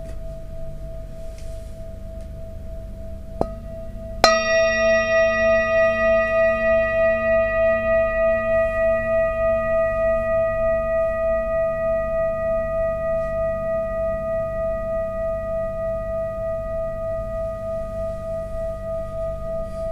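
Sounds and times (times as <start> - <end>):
metal singing bowl ringing: 3.1 - 19.9.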